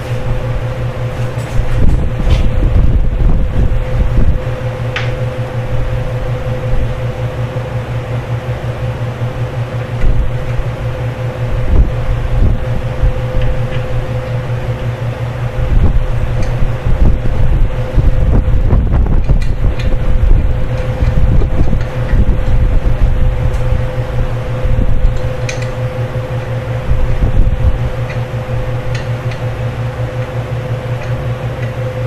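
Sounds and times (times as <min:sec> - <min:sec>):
electric fan humming: 0:00.0 - 0:32.0.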